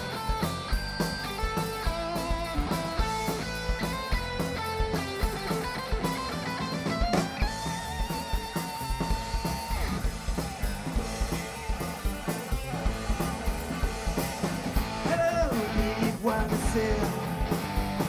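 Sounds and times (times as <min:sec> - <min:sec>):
heavy metal band playing live: 0:00.0 - 0:18.0.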